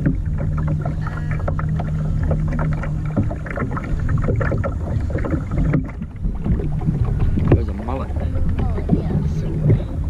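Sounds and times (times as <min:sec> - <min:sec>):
boat motor humming: 0:00.0 - 0:10.0
low rumble: 0:00.0 - 0:10.0.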